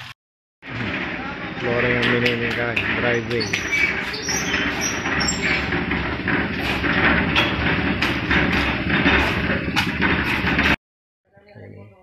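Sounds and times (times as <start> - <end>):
concrete mixer rumbling and rattling: 0.0 - 10.8.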